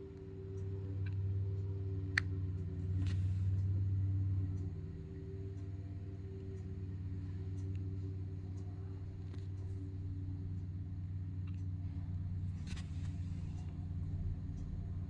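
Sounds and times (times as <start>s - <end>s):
machine engine droning: 0.0s - 15.0s.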